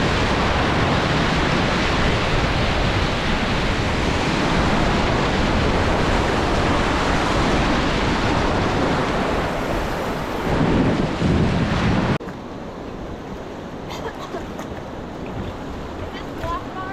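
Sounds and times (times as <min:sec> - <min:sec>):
rushing river whitewater: 0:00.0 - 0:16.9
wind buffeting microphone: 0:00.0 - 0:16.9.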